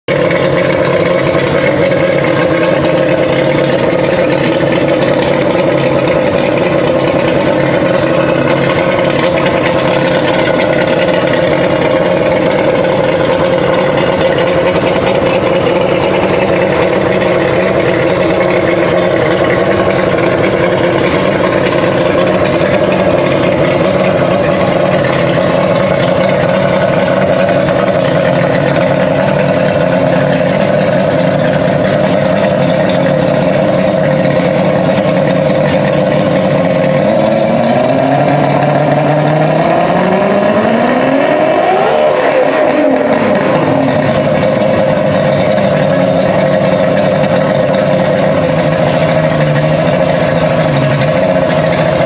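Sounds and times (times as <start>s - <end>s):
outboard engine idling: 0.0s - 52.0s.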